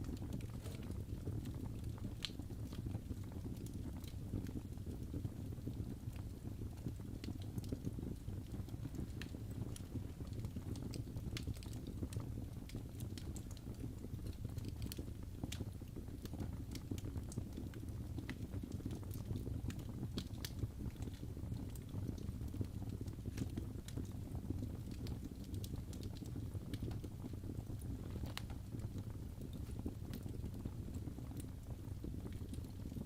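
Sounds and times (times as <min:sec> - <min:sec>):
burning logs rumbling: 0:00.0 - 0:33.0
fire popping and crackling: 0:00.0 - 0:33.0.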